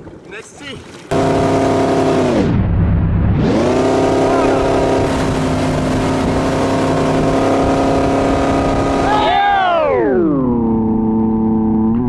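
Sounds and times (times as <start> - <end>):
boat engine running: 0.0 - 2.7, 3.3 - 12.0.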